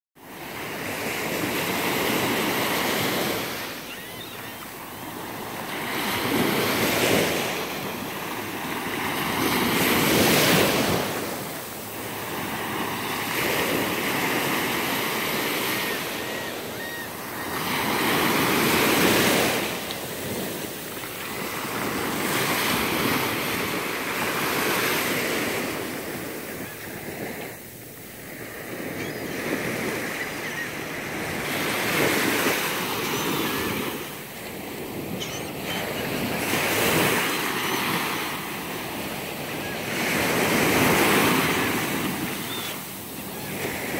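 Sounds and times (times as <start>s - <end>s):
small waves breaking on beach: 0.2s - 43.9s.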